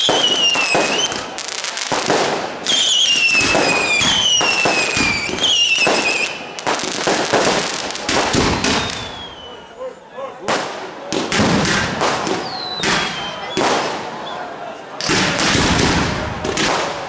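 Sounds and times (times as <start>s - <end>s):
fireworks crackling bangs: 0.0s - 9.7s, 10.4s - 17.0s
whistling firework shells: 0.0s - 9.7s, 11.2s - 17.0s.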